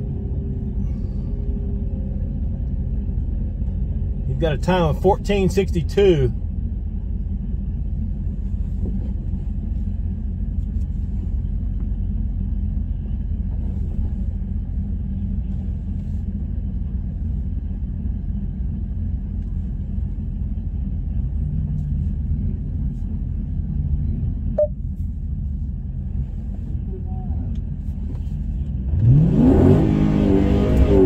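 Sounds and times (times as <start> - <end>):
car engine idling: 0.0 - 29.2.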